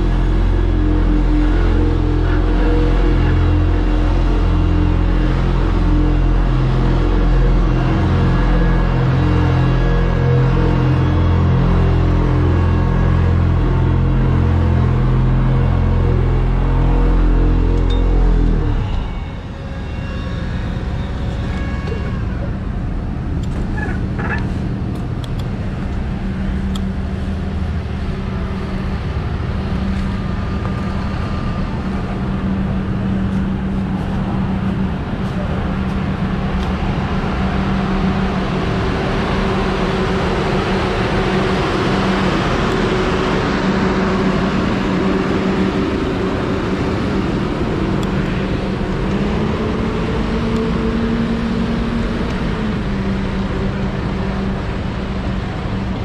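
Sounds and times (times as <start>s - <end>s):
diesel machinery drone: 0.0s - 56.0s
milling machine grinding rumble: 0.0s - 56.0s.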